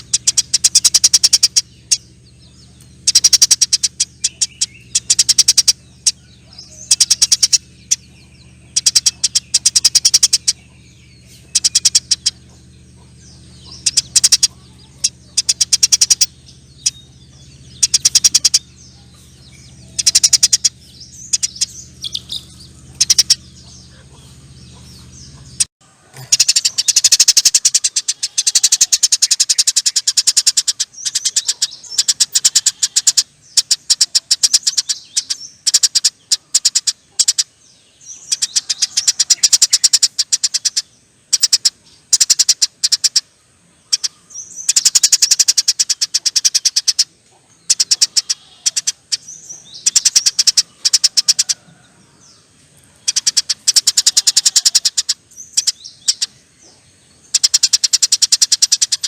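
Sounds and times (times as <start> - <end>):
low steady hum: 0.0 - 59.0
sparrow chirping trills: 0.0 - 59.0.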